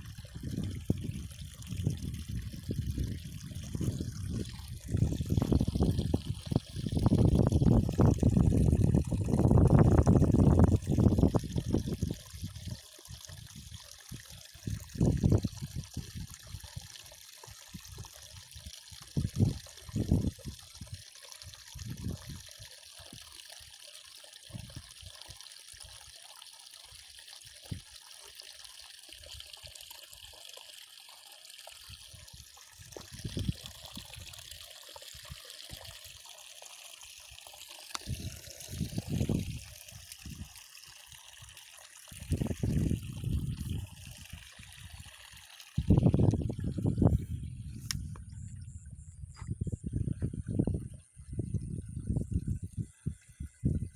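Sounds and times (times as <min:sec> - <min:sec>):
water trickling: 0:00.0 - 0:53.9.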